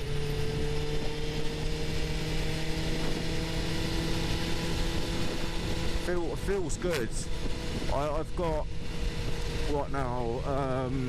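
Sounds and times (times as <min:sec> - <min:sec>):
wind noise rushing: 0:00.0 - 0:10.9
motorcycle engine running: 0:00.0 - 0:11.0.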